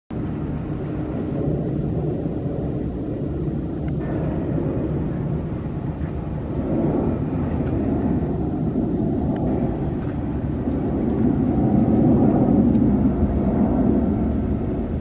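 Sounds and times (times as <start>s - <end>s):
jet engines rumbling: 0.1s - 15.0s.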